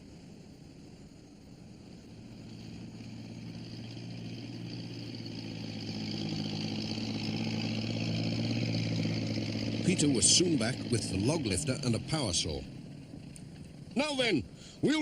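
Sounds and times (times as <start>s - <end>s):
forestry machine engine hum: 1.4s - 15.0s.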